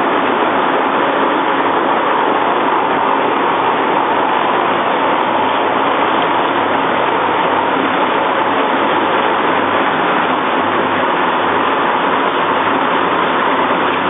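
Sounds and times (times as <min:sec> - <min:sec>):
machine line running: 0:00.0 - 0:14.0.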